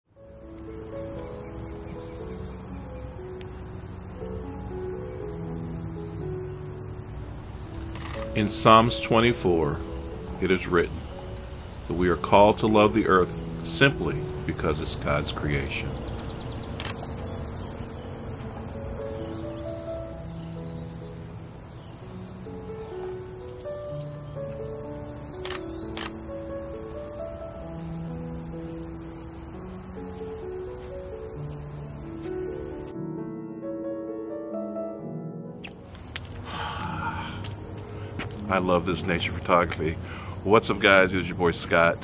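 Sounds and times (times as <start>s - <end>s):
high-pitched insect chorus: 0.1s - 32.9s, 35.5s - 42.0s
soft low music notes: 0.2s - 42.0s.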